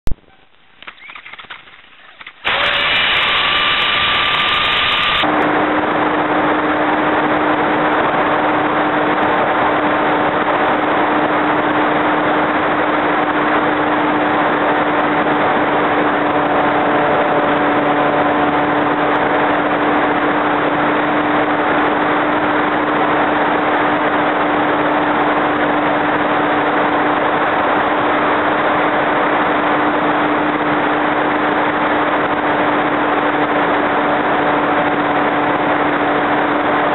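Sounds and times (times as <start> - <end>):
model plane motor humming: 1.0 - 36.9.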